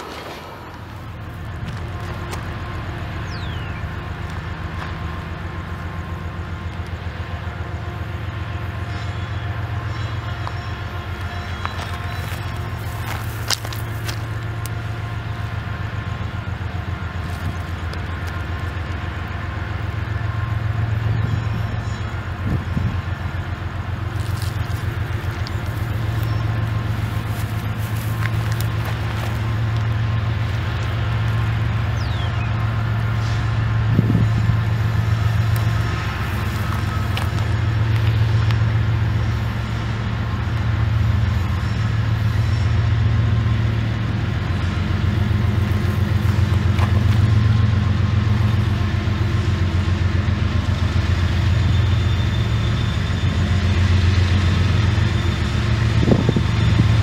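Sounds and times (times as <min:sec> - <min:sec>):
diesel locomotive engine throbbing: 0:00.0 - 0:57.0.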